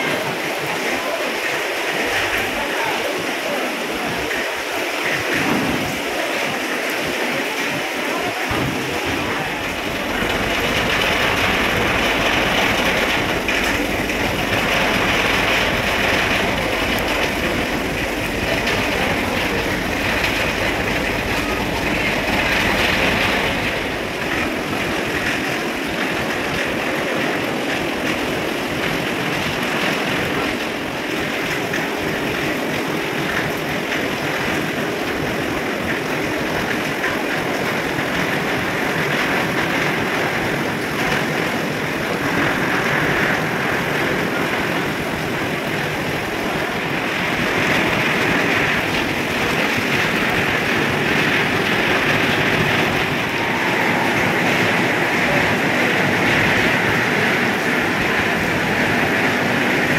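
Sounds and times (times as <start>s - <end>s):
ship engines rumbling: 0.0s - 59.9s.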